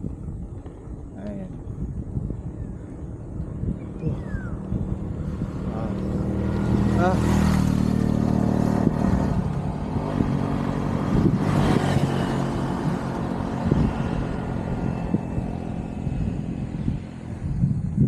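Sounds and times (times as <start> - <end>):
road or wind noise: 0.0 - 18.0
vehicle engine running: 3.4 - 18.0.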